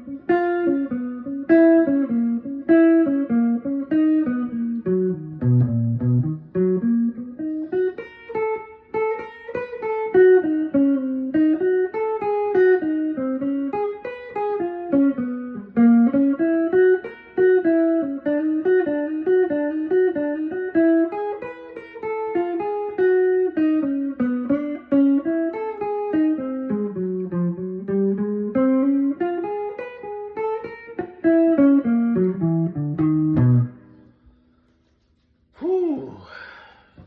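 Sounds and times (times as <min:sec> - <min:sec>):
jazz guitar single-note line: 0:00.0 - 0:33.9.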